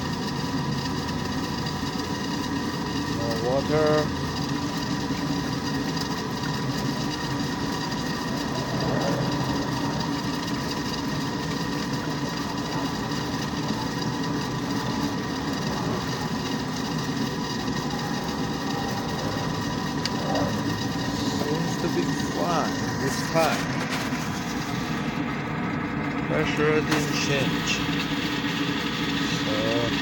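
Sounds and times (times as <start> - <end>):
furnace fan motor humming: 0.0 - 30.0.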